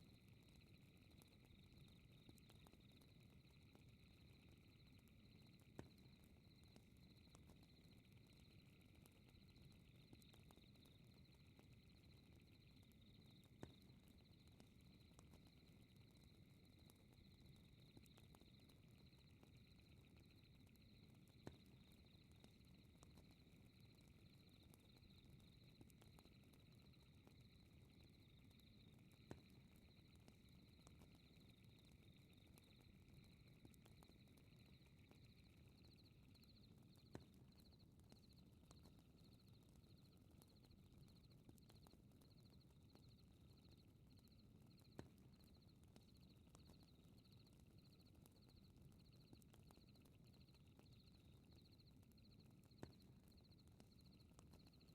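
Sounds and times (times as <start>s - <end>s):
fireplace crackling and popping: 0.0s - 54.9s
night insects chirping: 0.1s - 38.4s, 41.2s - 54.8s.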